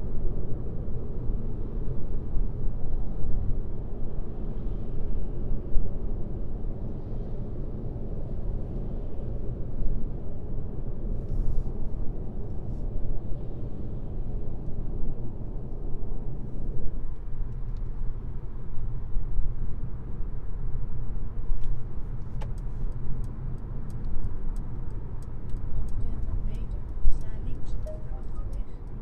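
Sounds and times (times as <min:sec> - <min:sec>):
car tyre and road noise: 0:00.0 - 0:29.0.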